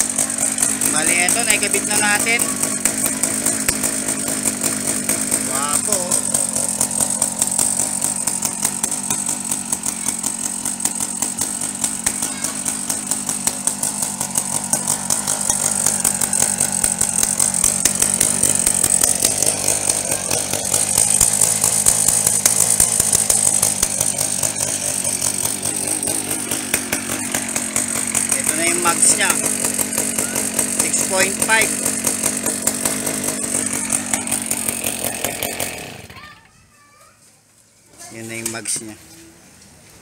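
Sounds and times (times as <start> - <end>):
two-stroke engine idling: 0.0 - 36.5.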